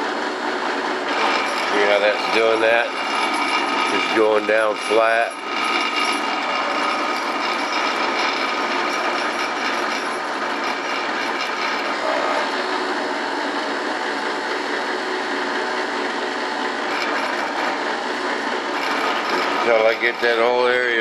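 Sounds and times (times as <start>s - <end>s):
drill press boring: 0.0s - 21.0s.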